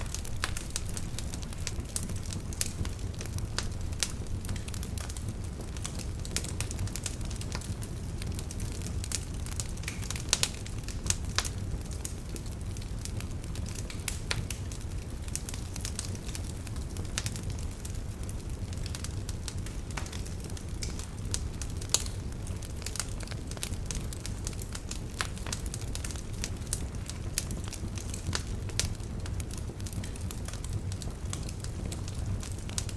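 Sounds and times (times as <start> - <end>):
fire crackling and popping: 0.0 - 32.9
low rumble of flames: 0.0 - 32.9.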